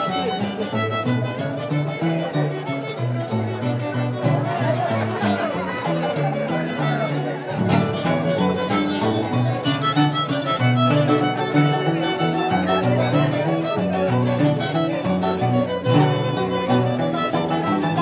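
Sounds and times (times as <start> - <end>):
violin melody: 0.0 - 18.0.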